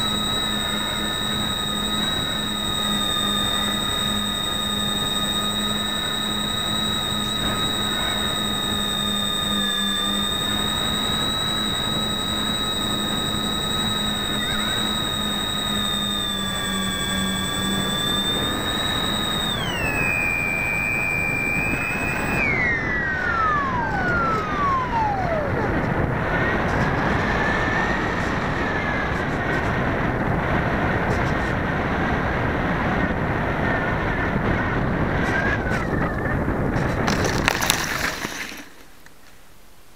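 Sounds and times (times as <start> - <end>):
electric motors whining: 0.0 - 38.7.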